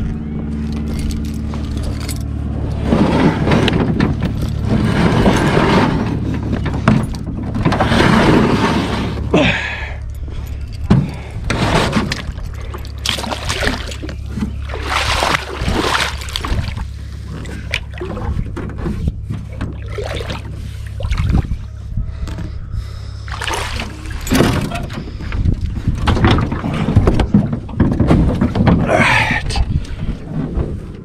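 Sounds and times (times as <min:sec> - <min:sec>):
water splashing around boat: 0:00.0 - 0:31.0.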